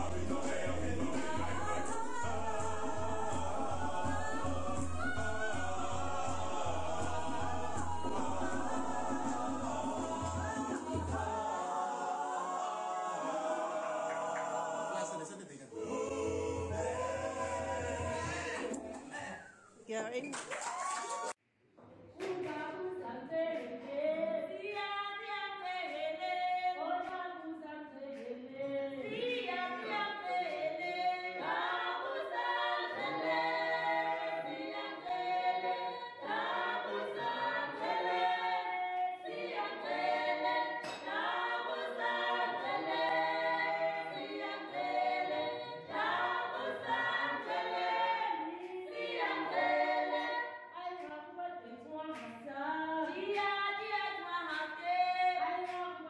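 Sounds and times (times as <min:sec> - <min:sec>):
choir singing: 0:00.0 - 0:19.5, 0:27.6 - 0:55.4.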